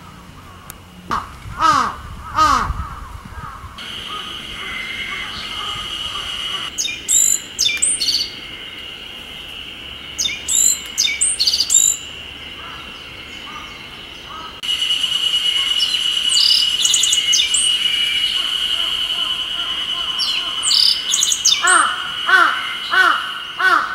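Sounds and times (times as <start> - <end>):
cicadas droning: 0.0 - 23.9
bird twittering song: 2.2 - 23.9.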